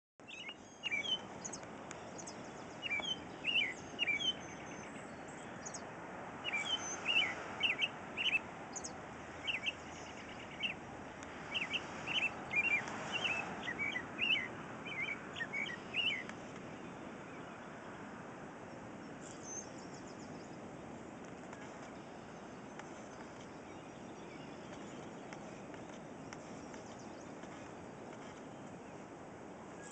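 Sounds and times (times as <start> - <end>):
robin chirping: 0.2 - 10.8, 11.5 - 17.6, 19.1 - 20.7, 21.5 - 29.0.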